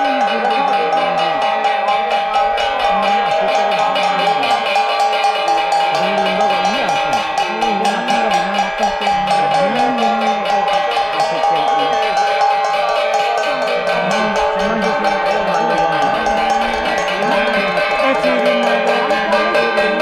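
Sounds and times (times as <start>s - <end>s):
bell-like metal percussion: 0.0s - 20.0s
chanting voice: 0.0s - 20.0s.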